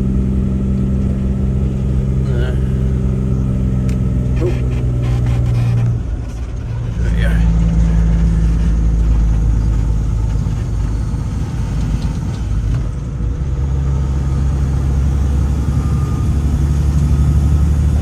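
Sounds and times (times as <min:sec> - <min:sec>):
truck engine drone: 0:00.0 - 0:18.0.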